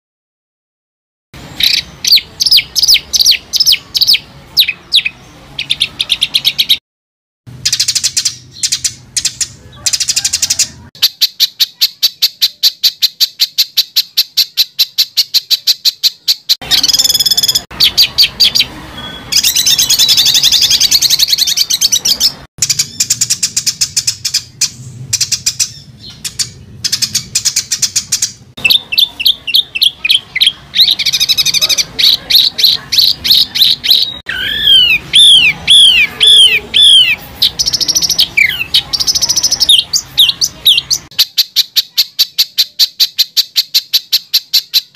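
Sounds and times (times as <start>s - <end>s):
songbird singing: 1.4s - 6.8s, 7.5s - 44.9s.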